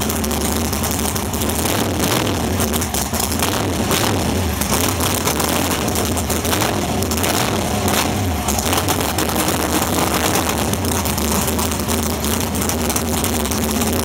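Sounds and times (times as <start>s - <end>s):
racing engine idling loudly: 0.0s - 14.0s.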